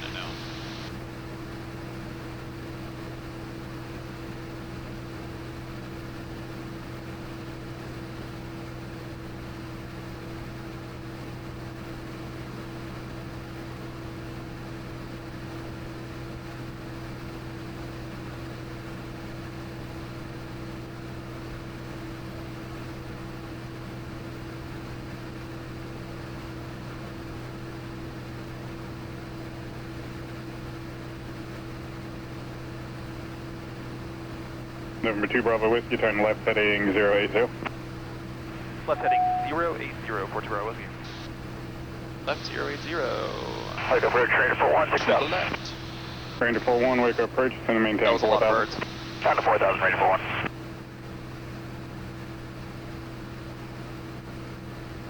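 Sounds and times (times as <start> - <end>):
aircraft engine droning in cabin: 0.0 - 55.0.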